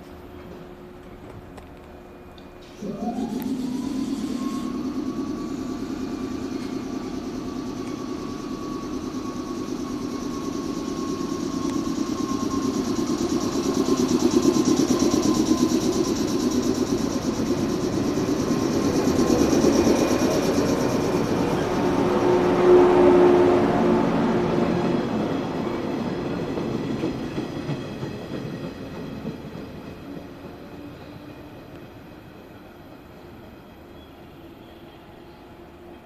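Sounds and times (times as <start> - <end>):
train high whine: 0.0 - 36.0
train wheels rumbling: 0.0 - 36.0.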